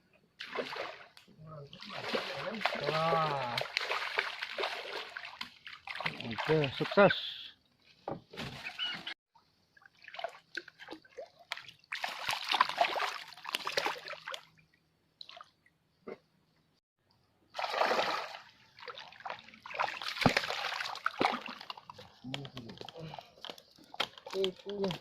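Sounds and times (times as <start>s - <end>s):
water splashing and sloshing: 0.3s - 16.3s, 17.5s - 25.0s.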